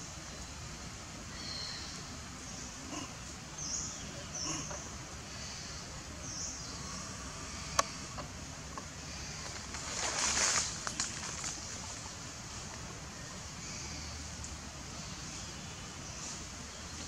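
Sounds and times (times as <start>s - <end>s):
noisy rustle: 0.0s - 17.0s
outdoor background noise: 0.0s - 17.0s.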